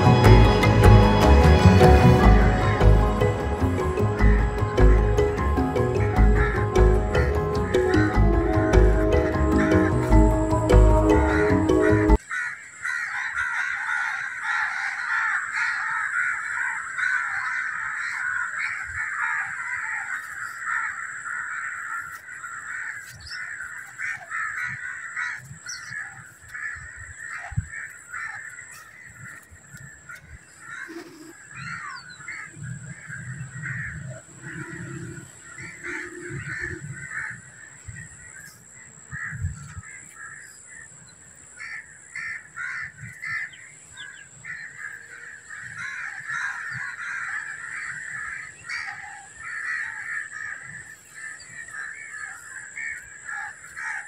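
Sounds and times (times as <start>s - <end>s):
birds calling and chattering: 0.0s - 54.0s.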